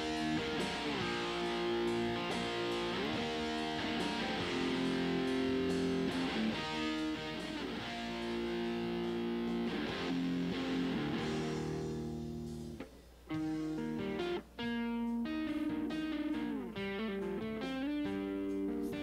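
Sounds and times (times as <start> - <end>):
ringing electric guitar chords: 0.0 - 19.0.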